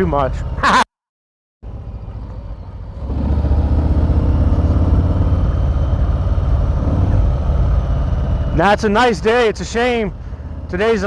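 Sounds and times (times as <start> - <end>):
motorcycle engine running: 1.6 - 11.0.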